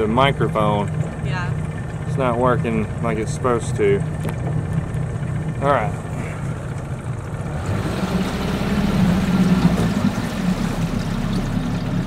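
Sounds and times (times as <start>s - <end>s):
boat motor humming: 0.0s - 12.0s
water noise: 0.0s - 12.0s.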